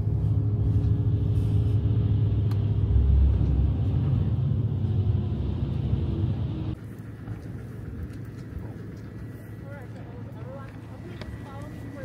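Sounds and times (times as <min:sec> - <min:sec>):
faint steady hum: 0:00.0 - 0:12.0
vehicle engine and road rumble: 0:00.0 - 0:12.0.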